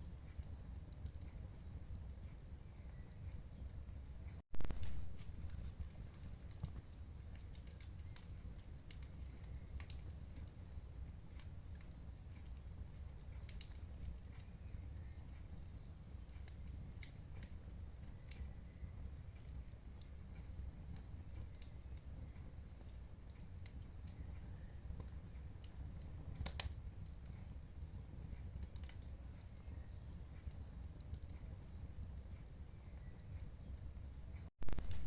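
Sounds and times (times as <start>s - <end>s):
fire crackling and popping: 0.0s - 35.0s
fire low rumble: 0.0s - 35.0s.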